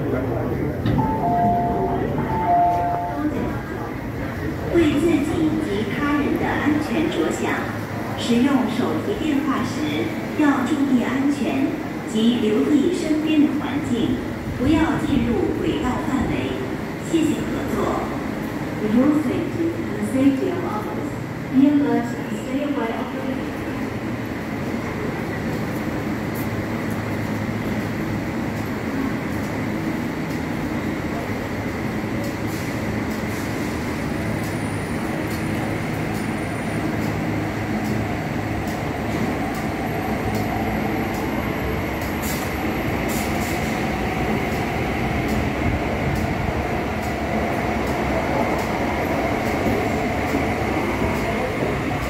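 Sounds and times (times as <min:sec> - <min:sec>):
faint train whine: 0:00.0 - 0:51.9
electric train rumbling past: 0:00.0 - 0:52.0.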